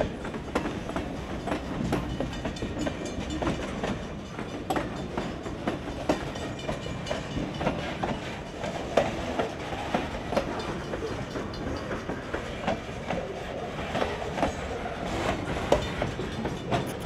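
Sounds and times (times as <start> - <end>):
freight train rumbling past: 0.0 - 17.0
wheels clacking over rail joints: 0.0 - 17.0.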